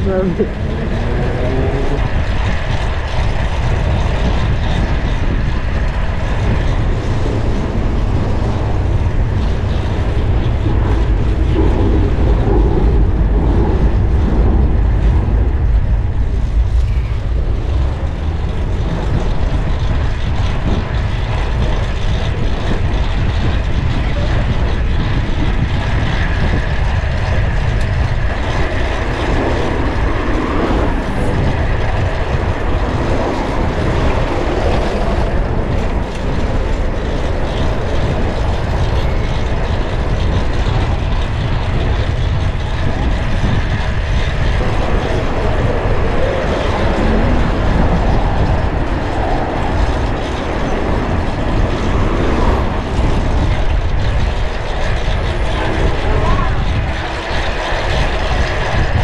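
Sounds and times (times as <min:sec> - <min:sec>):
city traffic: 0:00.0 - 0:59.0
wind rush on microphone: 0:00.0 - 0:59.0.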